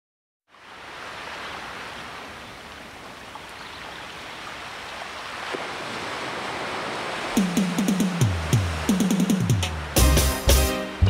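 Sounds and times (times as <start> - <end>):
ocean waves breaking: 0.5 - 11.0.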